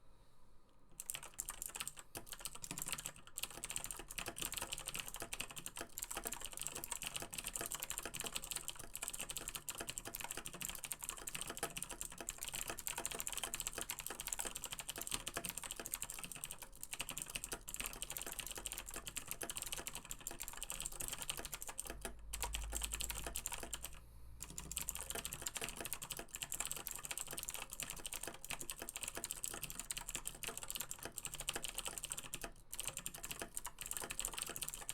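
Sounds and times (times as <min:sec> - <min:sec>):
fast typing on mechanical keyboard: 0:01.0 - 0:34.9.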